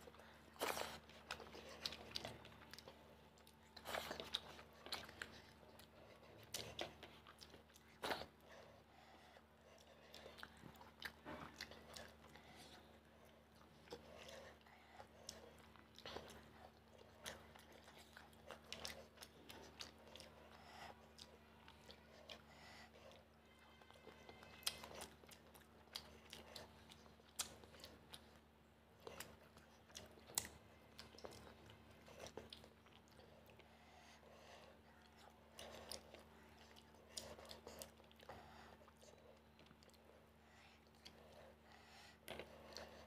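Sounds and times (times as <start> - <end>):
close chewing sounds: 0.0 - 43.0.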